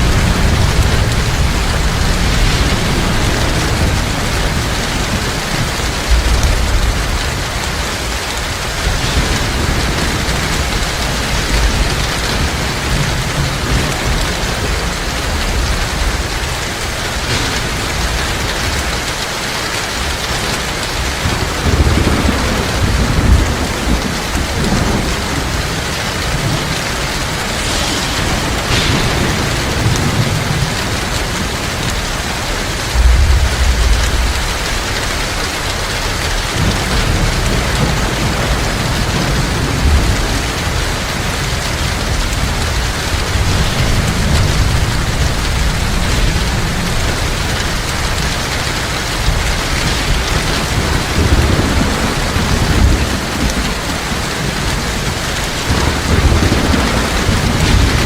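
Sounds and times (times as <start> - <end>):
heavy rain falling: 0.0 - 58.0
thunder rumbling: 0.0 - 58.0.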